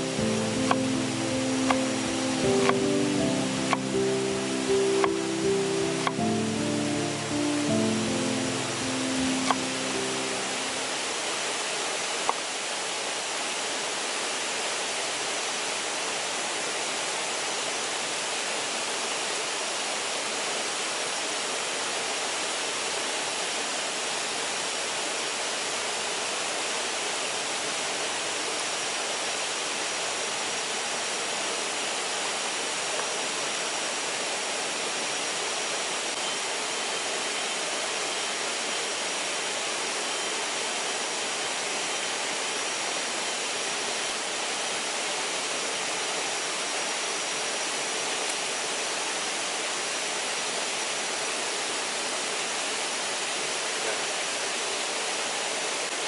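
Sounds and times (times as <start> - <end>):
waterfall rushing into pool: 0.0 - 56.0.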